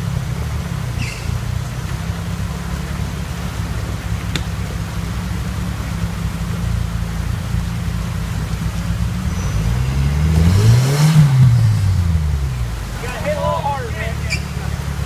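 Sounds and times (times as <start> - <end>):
buggy engine running and revving: 0.0 - 15.0.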